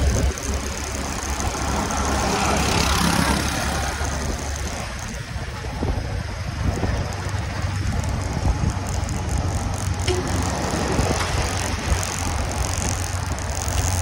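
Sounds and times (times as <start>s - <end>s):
tyre and road noise: 0.0s - 14.0s
wind rush on microphone: 0.0s - 14.0s.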